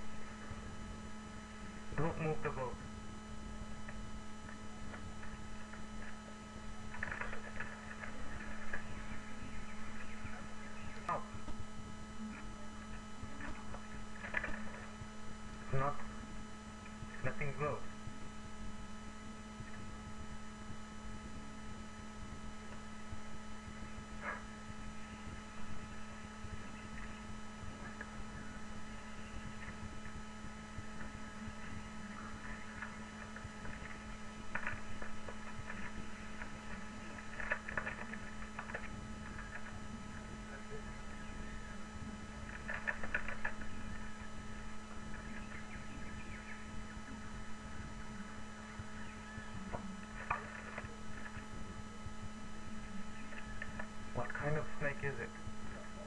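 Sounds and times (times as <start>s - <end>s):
electrical hum: 0.0s - 56.0s
faint crackles: 0.0s - 56.0s.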